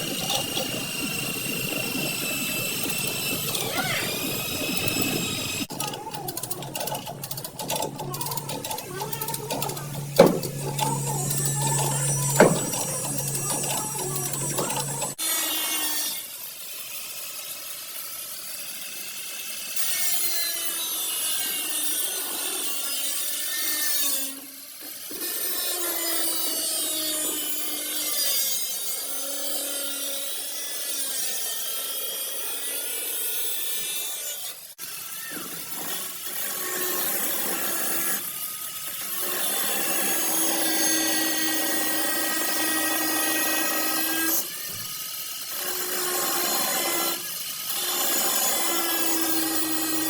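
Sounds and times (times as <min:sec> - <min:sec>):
power tool on sheet metal: 0:00.0 - 0:50.0.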